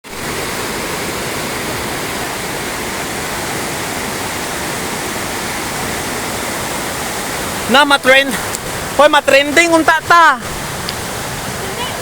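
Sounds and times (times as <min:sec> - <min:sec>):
flooding river rushing: 0:00.0 - 0:12.0.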